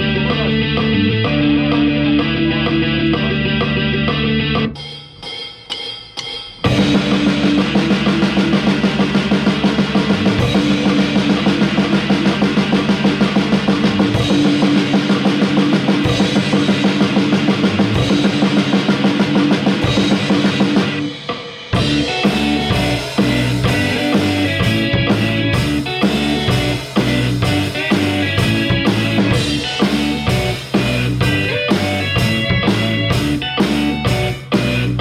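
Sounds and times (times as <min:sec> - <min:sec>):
electric guitar: 0:00.0 - 0:04.8, 0:06.7 - 0:35.0
drum kit: 0:00.0 - 0:35.0.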